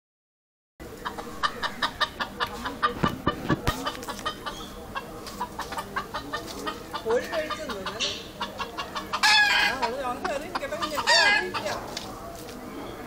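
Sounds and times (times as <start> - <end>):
hens clucking: 0.8 - 13.0.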